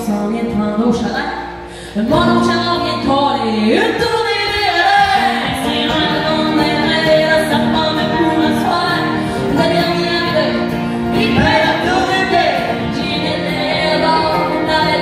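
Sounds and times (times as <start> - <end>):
strummed acoustic guitar: 0.0 - 15.0
woman singing: 0.0 - 15.0.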